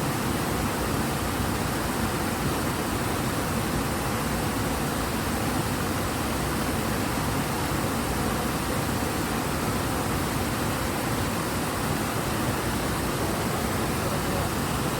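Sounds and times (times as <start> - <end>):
river rushing: 0.0 - 14.9.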